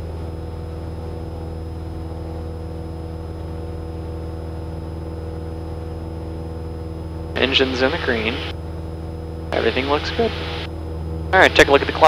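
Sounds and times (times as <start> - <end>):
airplane engine drone in cabin: 0.0 - 12.0.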